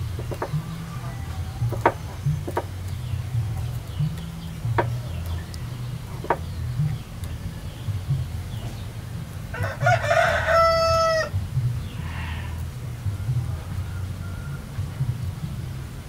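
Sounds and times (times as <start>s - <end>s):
chickens clucking: 0.0s - 16.0s
low background drone: 0.0s - 16.0s.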